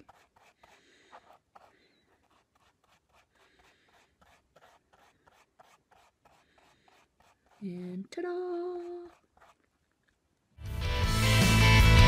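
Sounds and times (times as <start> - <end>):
paintbrush strokes: 0.0 - 10.2.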